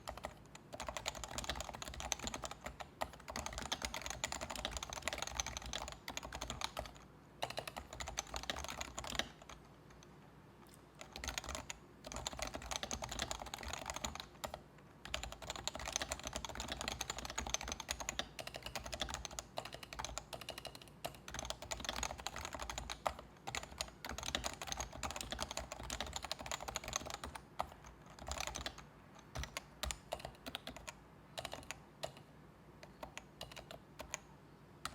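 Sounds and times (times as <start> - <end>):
keyboard typing: 0.0 - 10.1, 11.0 - 34.9.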